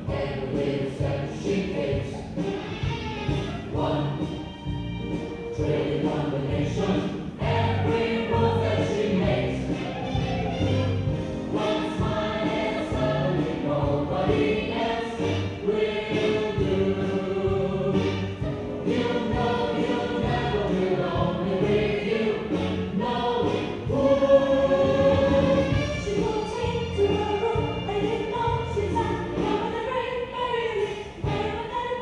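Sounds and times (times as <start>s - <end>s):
choir singing: 0.0s - 2.7s, 3.3s - 32.0s.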